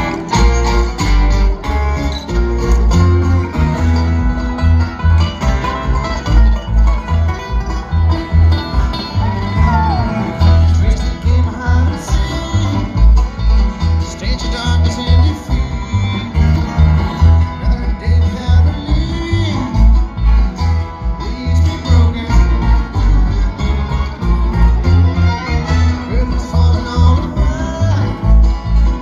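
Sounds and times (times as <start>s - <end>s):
banjo picking: 0.0s - 29.0s
bluegrass band through speakers: 0.0s - 29.0s
guitar picking: 0.0s - 29.0s
pulsing bass line: 0.0s - 29.0s.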